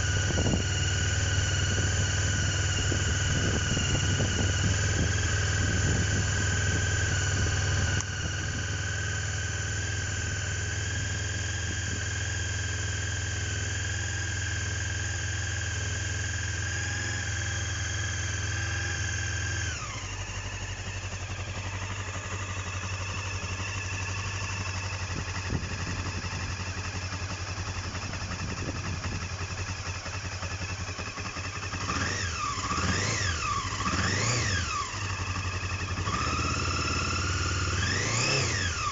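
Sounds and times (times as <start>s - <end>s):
motorcycle engine idling and revving: 0.0s - 38.9s
steady high whine: 0.0s - 38.9s.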